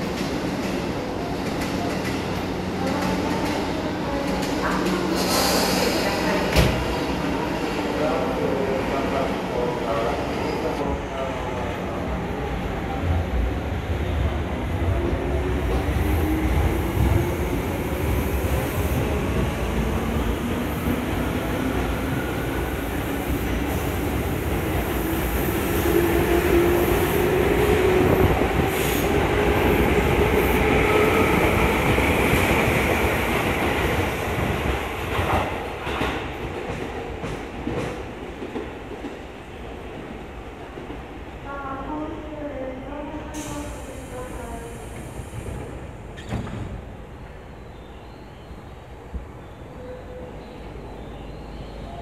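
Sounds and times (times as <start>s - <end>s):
train wheel and rail noise: 0.0s - 52.0s.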